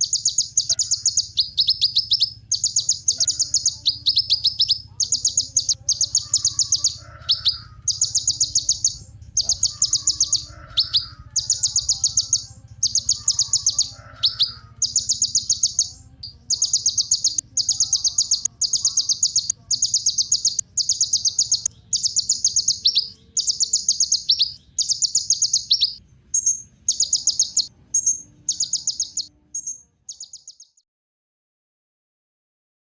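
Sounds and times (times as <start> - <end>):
sunbird singing fast trills: 0.0 - 30.8.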